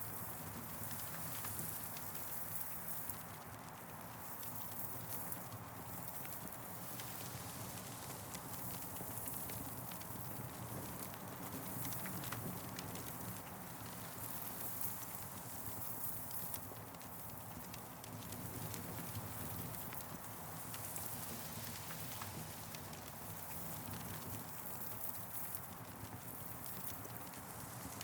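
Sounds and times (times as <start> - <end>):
campfire wood crackling: 0.8 - 28.0.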